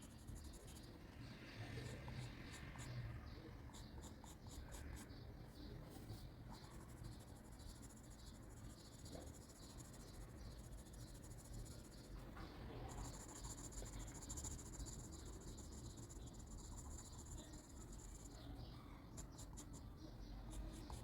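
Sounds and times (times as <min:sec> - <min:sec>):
pencil scratching on paper: 0:00.0 - 0:03.0, 0:03.7 - 0:05.2, 0:05.9 - 0:21.0.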